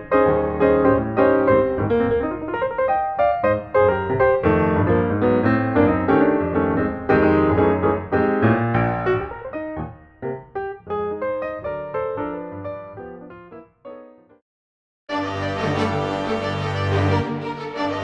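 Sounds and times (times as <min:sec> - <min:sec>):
piano music: 0:00.0 - 0:14.4, 0:15.1 - 0:18.0.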